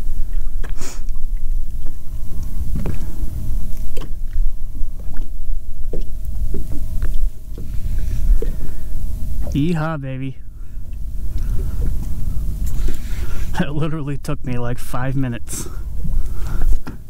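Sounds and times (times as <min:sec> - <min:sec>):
faint steady hum: 0:00.0 - 0:17.0
wind and water rumble: 0:00.0 - 0:17.0.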